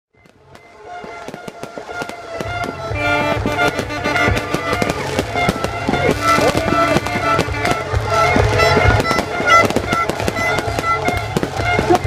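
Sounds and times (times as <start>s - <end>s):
fireworks bangs and crackling pops: 0.2s - 12.0s
music: 0.2s - 12.0s.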